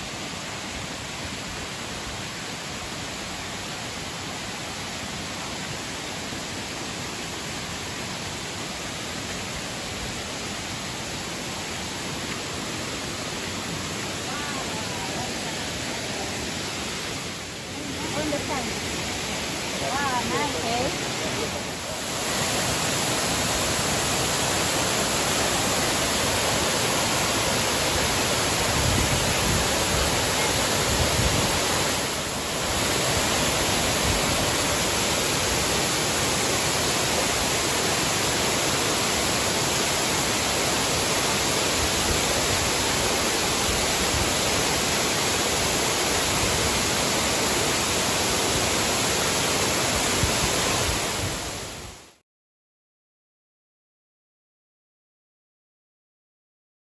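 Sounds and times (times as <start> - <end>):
waterfall rushing over rock ledges: 0.0 - 52.2.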